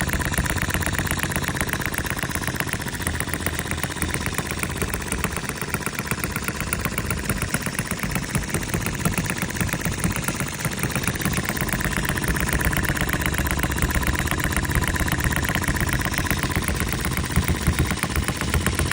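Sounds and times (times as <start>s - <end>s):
stationary engine clattering: 0.0s - 18.9s.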